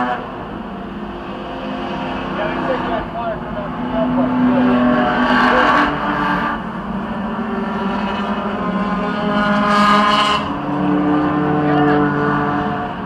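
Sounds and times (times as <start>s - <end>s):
race car engine drone: 0.0s - 13.0s.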